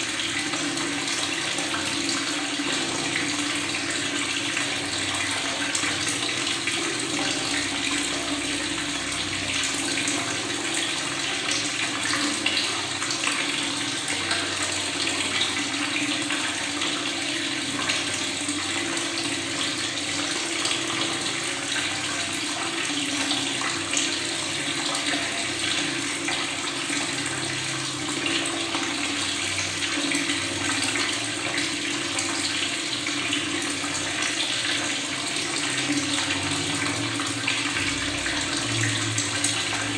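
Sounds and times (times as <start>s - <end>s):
tap water running and gurgling: 0.0s - 39.9s.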